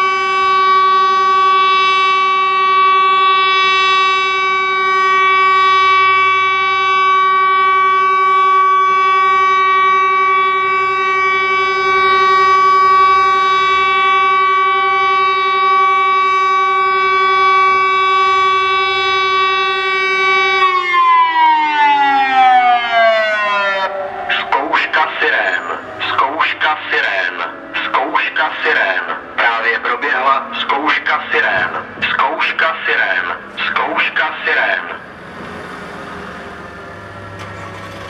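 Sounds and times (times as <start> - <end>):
electronic siren steady tone: 0.0 - 37.4.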